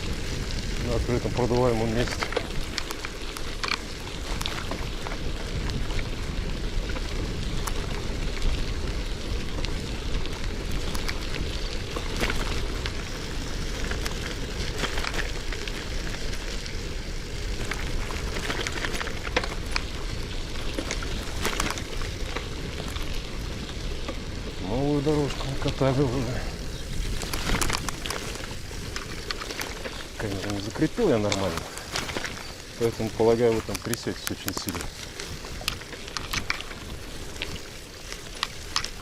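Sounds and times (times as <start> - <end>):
bicycle clicks and rattles: 0.0 - 39.0
bicycle tyre noise: 0.0 - 39.0
wind rumbling on microphone: 0.0 - 39.0.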